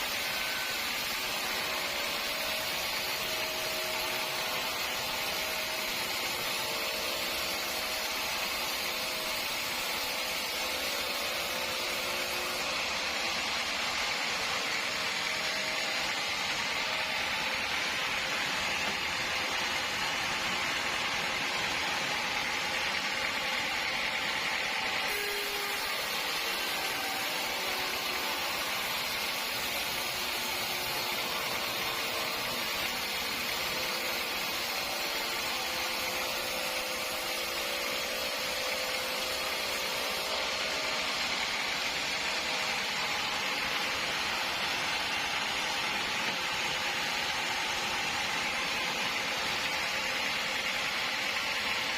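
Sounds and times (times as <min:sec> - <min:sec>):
sawmill machinery hissing: 0:00.0 - 0:51.9.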